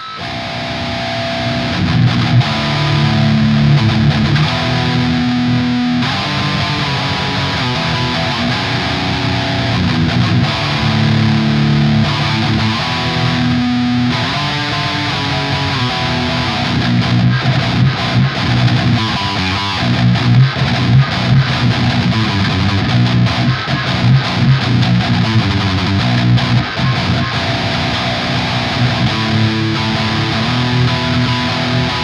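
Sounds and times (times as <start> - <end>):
distorted electric guitar: 0.0 - 32.0.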